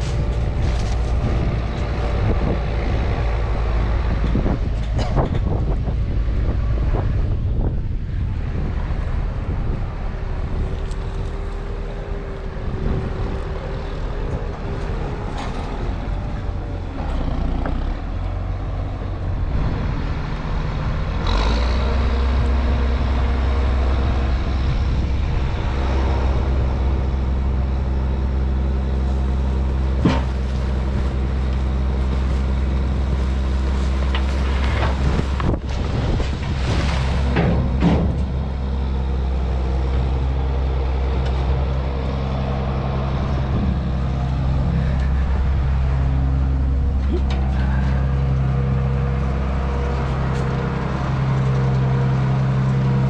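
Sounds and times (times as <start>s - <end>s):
diesel excavator engine running: 0.0s - 53.0s.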